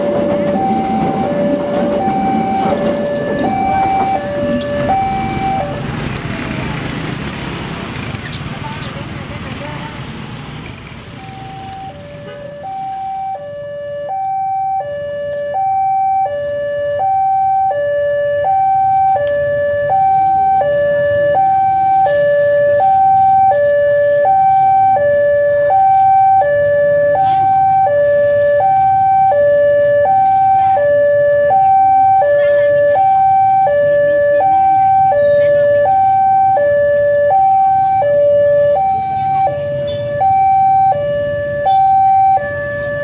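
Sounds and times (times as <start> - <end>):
level crossing two-tone alarm: 0.0 - 5.9, 11.2 - 43.0.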